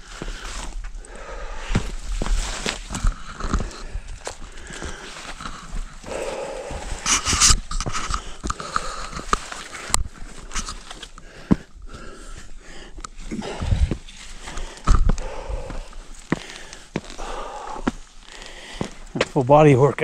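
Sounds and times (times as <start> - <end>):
hard breathing: 0.0 - 19.4
brush rustling: 0.0 - 19.5
boots scuffing on rock: 1.6 - 11.7, 13.4 - 19.5.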